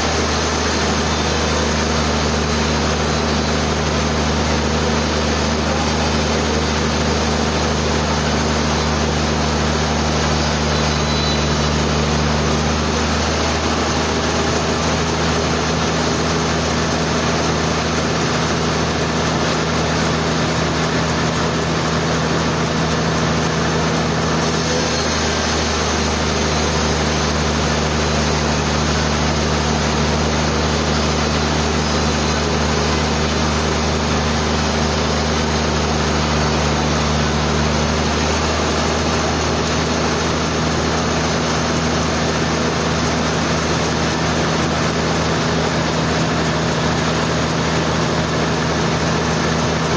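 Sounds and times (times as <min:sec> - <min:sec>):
sawmill machinery hum: 0:00.0 - 0:49.9.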